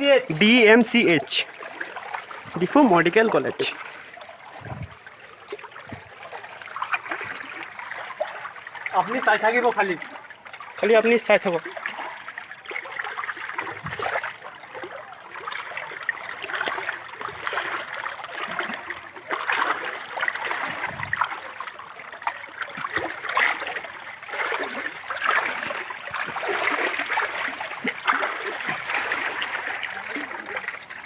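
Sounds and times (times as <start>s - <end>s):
floodwater splashing and flowing: 0.0s - 31.0s.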